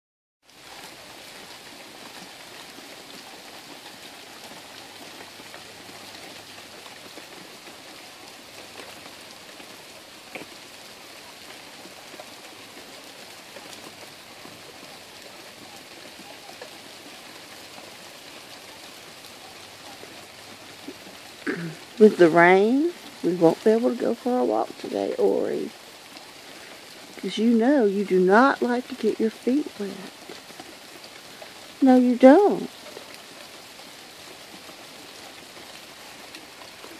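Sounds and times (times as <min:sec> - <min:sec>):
rain on leaves: 0:00.4 - 0:36.9
water drips: 0:00.5 - 0:36.9.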